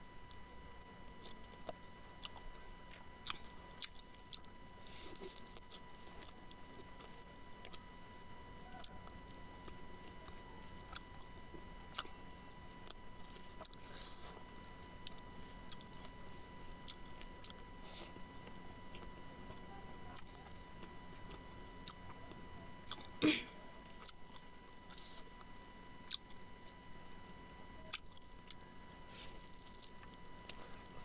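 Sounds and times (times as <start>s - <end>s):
person chewing and biting meat: 1.1s - 7.9s, 8.7s - 11.3s, 11.9s - 23.1s, 24.0s - 26.8s, 27.8s - 31.0s.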